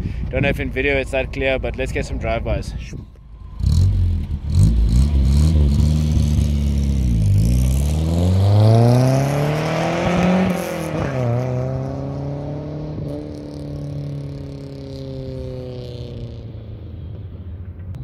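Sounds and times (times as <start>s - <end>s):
car engine accelerating: 3.3s - 18.0s.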